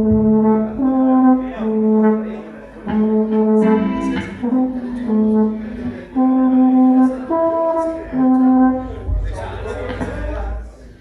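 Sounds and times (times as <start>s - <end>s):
brass horns playing long notes: 0.0s - 9.1s.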